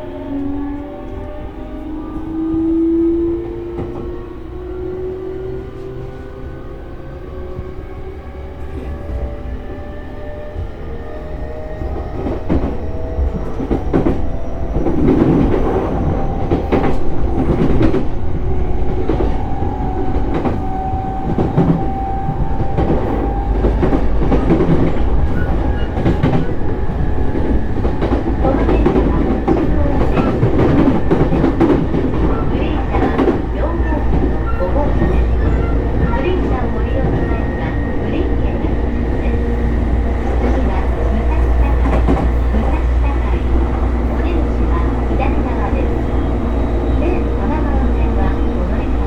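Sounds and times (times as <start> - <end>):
rumble of train wheels: 0.0 - 49.0.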